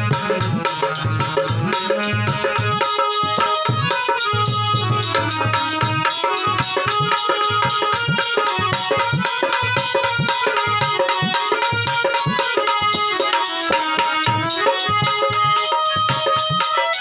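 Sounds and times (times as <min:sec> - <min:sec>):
held melody notes: 0:00.0 - 0:17.0
tabla fast rhythm: 0:00.0 - 0:17.0.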